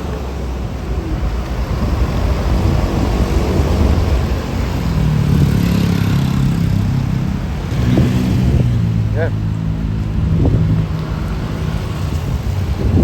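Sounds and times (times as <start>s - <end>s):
road traffic rumble: 0.0s - 13.0s
vehicle engine approaching: 0.0s - 13.0s.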